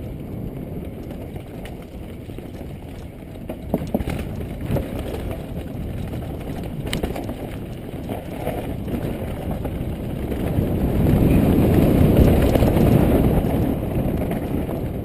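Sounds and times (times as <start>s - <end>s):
bike rattling: 0.0s - 15.0s
bike tyres rumbling on dirt: 0.0s - 15.0s
wind buffeting microphone: 0.0s - 15.0s.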